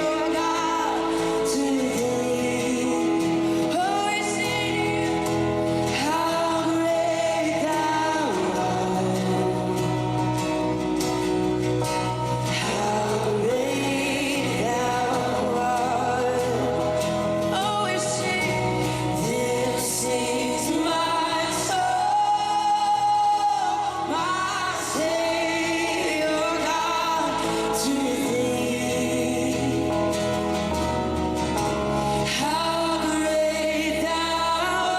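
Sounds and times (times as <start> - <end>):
instrumental backing: 0.0 - 34.9
voices singing gospel: 0.0 - 34.9.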